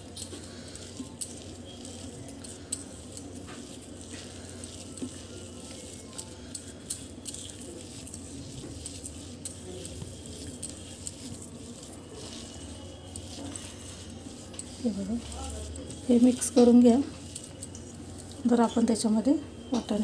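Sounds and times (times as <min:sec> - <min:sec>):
hands squishing mashed potato: 0:00.0 - 0:18.5.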